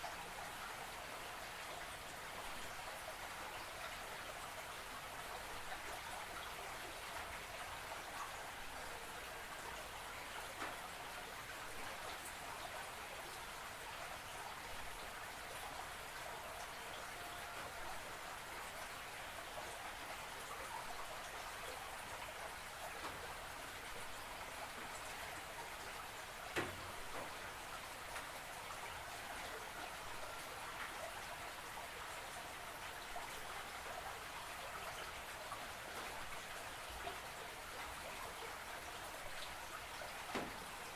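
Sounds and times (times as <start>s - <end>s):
creek trickling and babbling: 0.0s - 40.9s.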